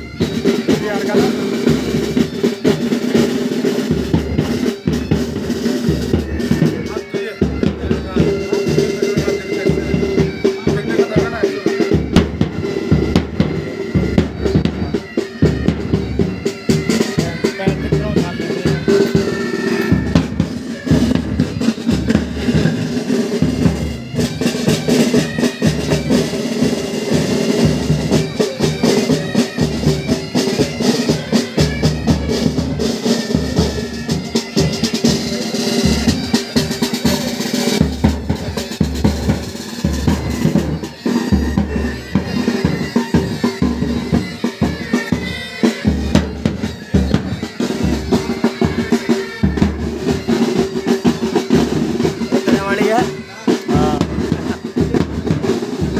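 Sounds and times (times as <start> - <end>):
bagpipes with drones: 0.0 - 55.9
rattling snare drums: 0.0 - 55.9.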